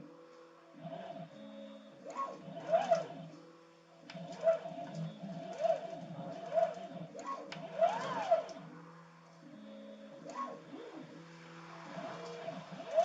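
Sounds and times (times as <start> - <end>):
steady machine hum: 0.0 - 13.0
stepper motors whining: 0.9 - 3.3, 4.1 - 13.0.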